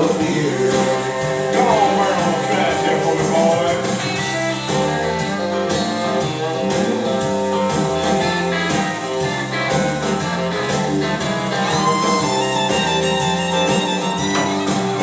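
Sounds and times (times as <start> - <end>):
guitar over band beat: 0.0 - 15.0.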